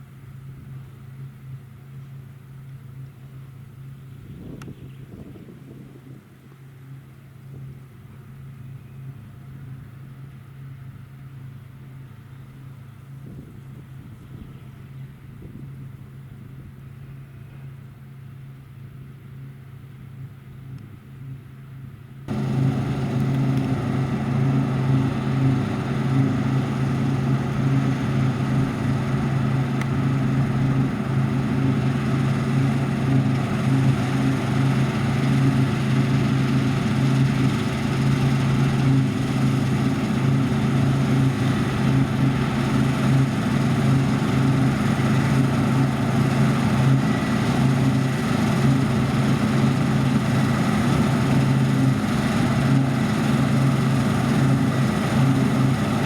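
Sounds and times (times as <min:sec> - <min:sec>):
harvest machinery engine drone: 0:00.0 - 0:56.0.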